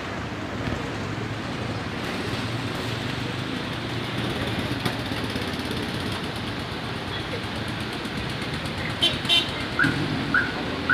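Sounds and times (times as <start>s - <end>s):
slow-moving car engines: 0.0s - 10.9s.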